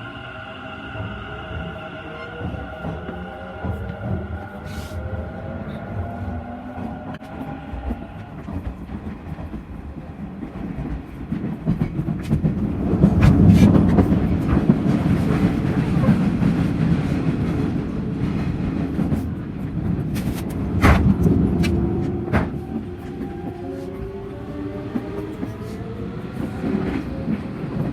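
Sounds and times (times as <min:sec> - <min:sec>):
electric train rumble: 0:00.0 - 0:27.9.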